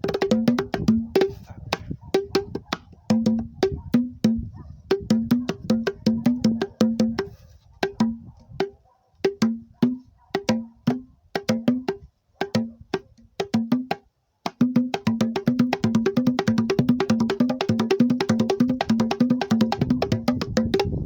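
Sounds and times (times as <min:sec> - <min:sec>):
hand drumming on wooden box drums: 0:00.0 - 0:21.0.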